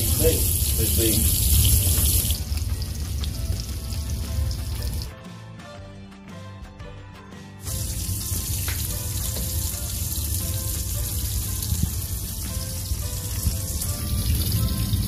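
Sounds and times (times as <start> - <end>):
fish frying in hot oil: 0.0 - 5.1, 7.7 - 15.0
faint background music: 0.0 - 15.0.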